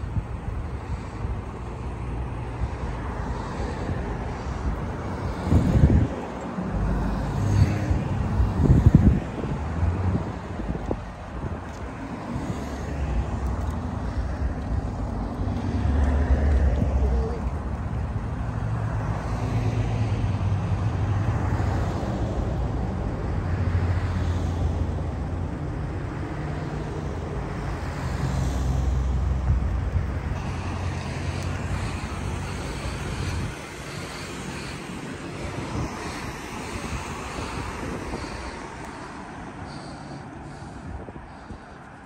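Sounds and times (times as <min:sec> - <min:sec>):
wind on microphone: 0:00.0 - 0:25.2, 0:26.0 - 0:42.0
road noise: 0:00.0 - 0:42.0.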